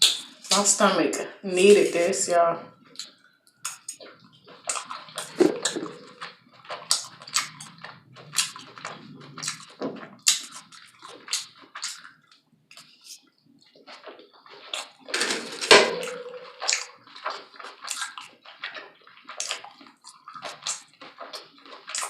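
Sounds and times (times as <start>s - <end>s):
wet chewing sounds: 1.6s - 22.0s.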